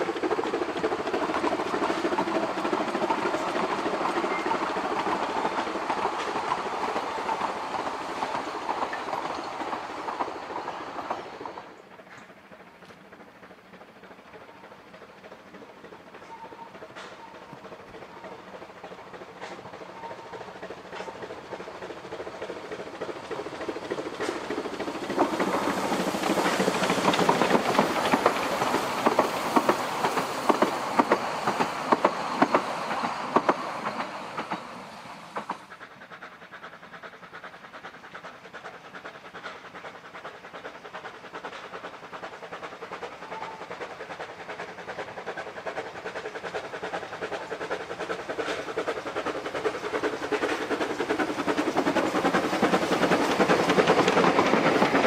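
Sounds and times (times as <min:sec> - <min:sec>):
steam train approaching: 0:00.0 - 0:55.0
steam train passing: 0:00.0 - 0:55.0
wheels clicking over rail joints: 0:00.0 - 0:55.0.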